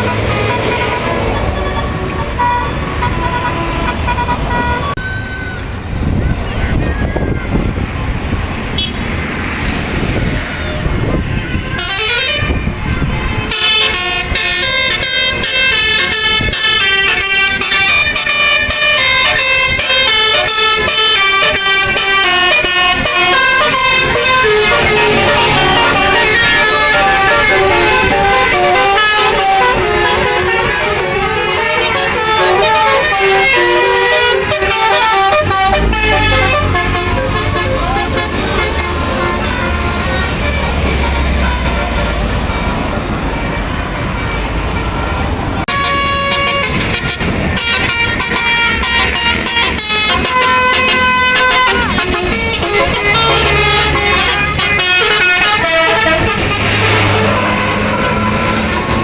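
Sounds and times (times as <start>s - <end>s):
musical bus horn melody: 0.0s - 5.7s, 8.7s - 9.1s, 10.5s - 59.0s.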